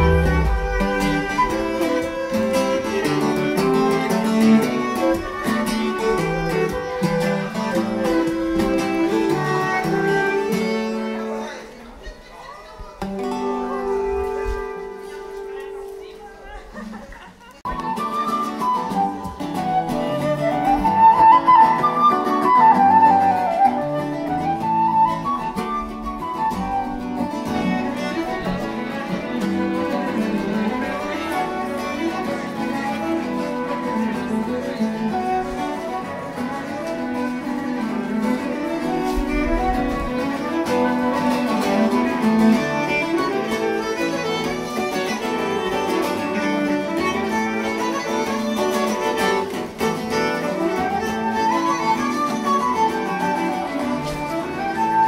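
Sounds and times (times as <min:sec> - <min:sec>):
flute violin and guitar playing: 0:00.0 - 0:11.8, 0:13.0 - 0:16.3, 0:17.7 - 0:55.0.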